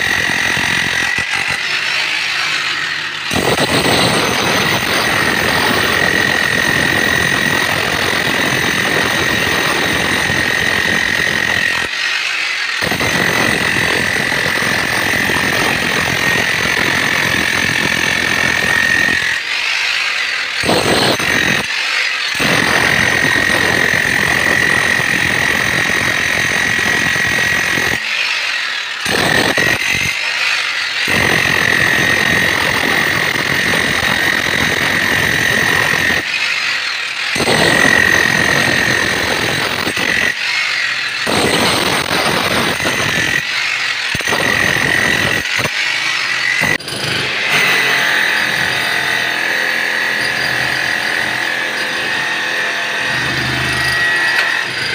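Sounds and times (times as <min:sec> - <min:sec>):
breaker hammer chipping concrete: 0:00.0 - 0:54.9
high whine of breaker hammer: 0:00.0 - 0:54.9.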